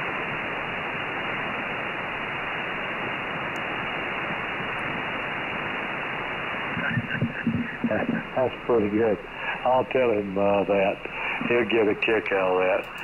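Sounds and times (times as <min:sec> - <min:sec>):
shortwave receiver hiss: 0:00.0 - 0:13.0.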